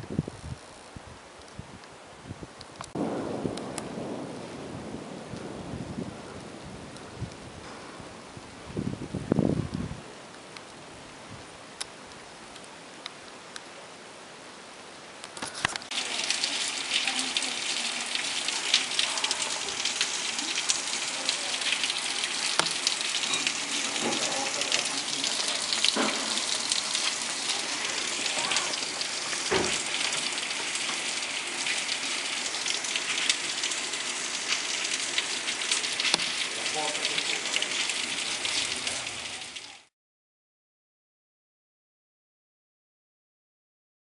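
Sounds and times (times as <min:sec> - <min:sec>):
heavy rain pouring: 0:00.0 - 0:39.9
raindrops hitting close by: 0:00.0 - 0:39.9.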